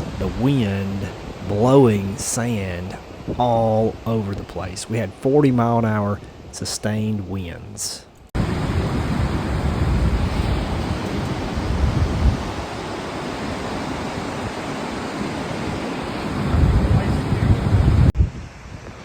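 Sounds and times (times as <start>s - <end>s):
strong wind buffeting microphone: 0.0s - 7.4s, 8.4s - 19.0s.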